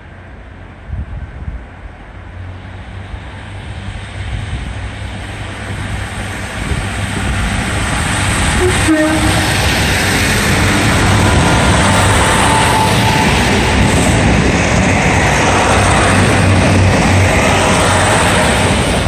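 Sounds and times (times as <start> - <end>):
rail noise: 0.0 - 19.0
train diesel engine running: 0.1 - 19.0.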